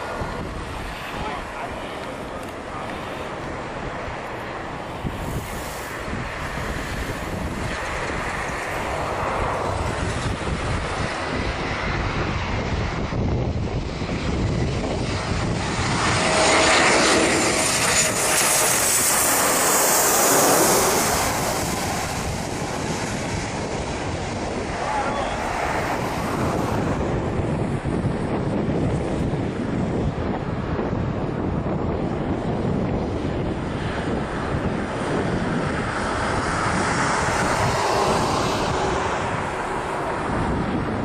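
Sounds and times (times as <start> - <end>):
aircraft engine passing: 0.0 - 41.0.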